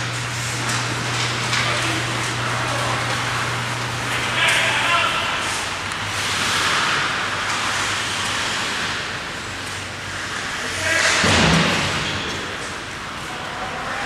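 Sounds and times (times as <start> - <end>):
ice rink crowd hiss: 0.0 - 14.0.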